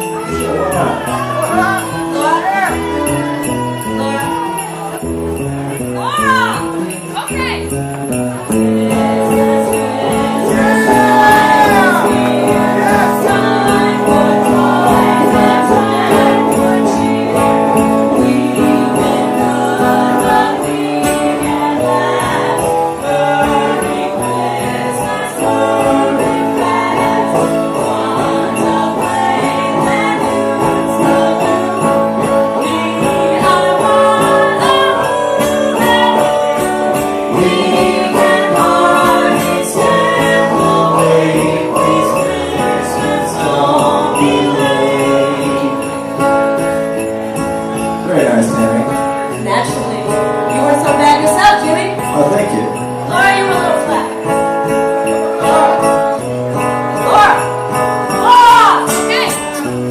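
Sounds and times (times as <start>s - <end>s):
live band playing christmas song: 0.0s - 59.9s
sleigh bells jingling: 0.0s - 59.9s.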